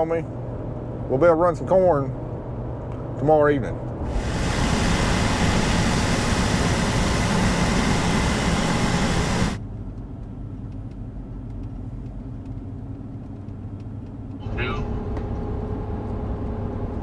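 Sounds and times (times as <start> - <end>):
road and wind noise: 0.0 - 17.0
steady low hum: 0.0 - 17.0.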